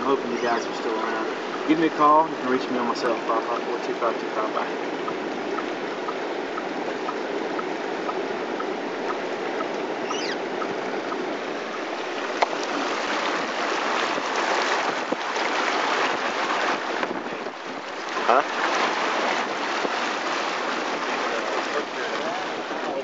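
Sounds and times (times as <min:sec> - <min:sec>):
tyres splashing through water: 0:00.0 - 0:23.0.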